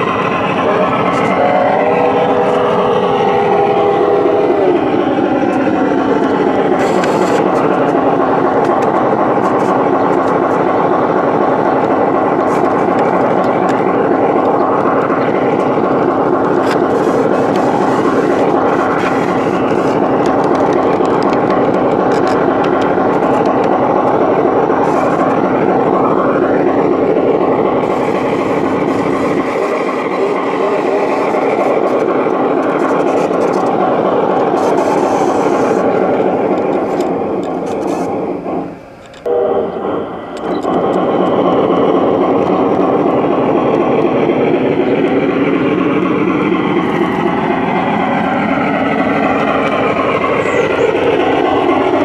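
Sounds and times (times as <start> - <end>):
model train rumbling on track: 0.0 - 52.0.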